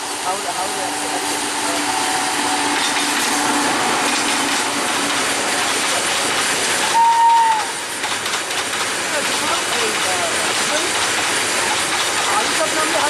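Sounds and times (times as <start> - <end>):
train wheels rattling on rails: 0.0 - 13.0.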